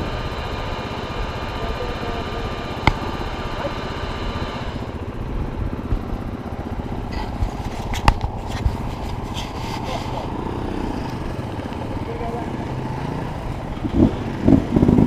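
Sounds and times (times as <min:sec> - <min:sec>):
dirt bike engines idling: 0:00.0 - 0:15.0.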